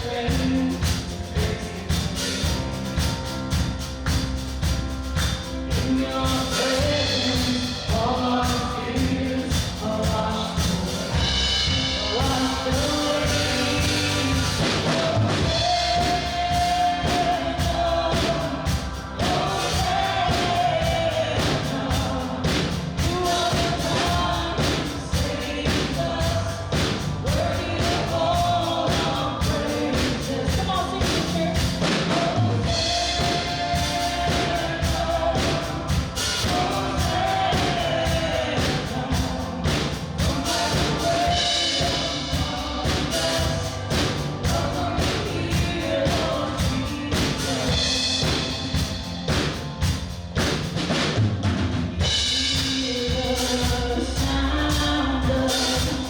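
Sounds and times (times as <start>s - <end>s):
voices singing a melody: 0.0s - 49.9s, 52.0s - 56.0s
drum kit steady beat: 0.0s - 56.0s.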